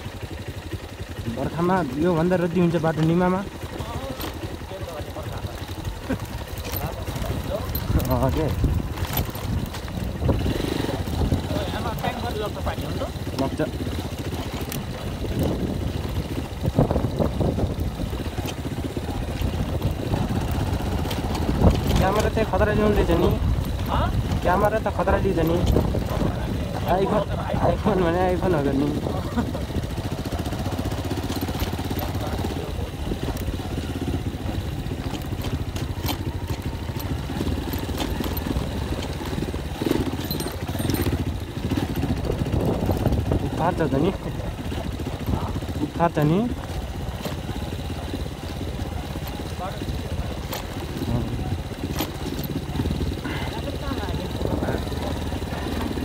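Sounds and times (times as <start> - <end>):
clicks and rattles of bike: 0.0 - 56.0
motorcycle engine running: 0.0 - 56.0.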